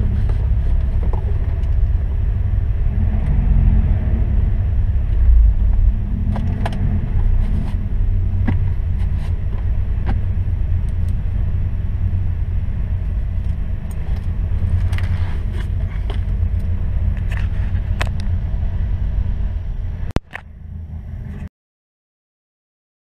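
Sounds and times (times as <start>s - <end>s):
car engine idling: 0.0s - 21.4s.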